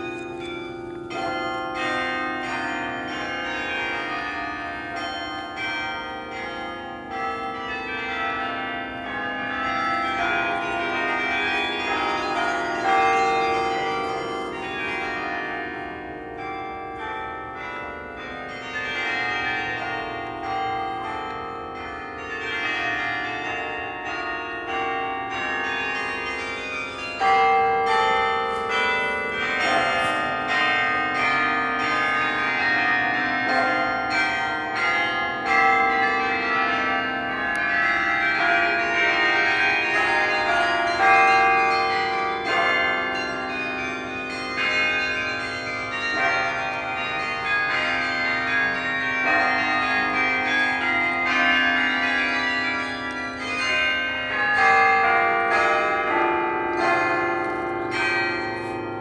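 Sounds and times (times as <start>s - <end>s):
carillon bells playing a tune: 0.0s - 59.0s.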